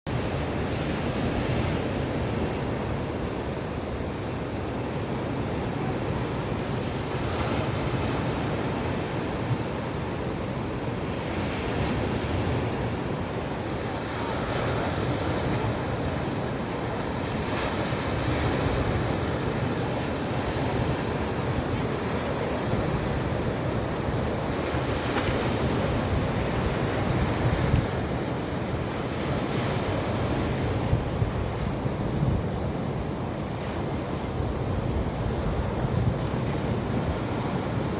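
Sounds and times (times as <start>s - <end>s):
stormy surf waves breaking: 0.1s - 37.9s
wind buffeting microphone: 0.3s - 37.9s.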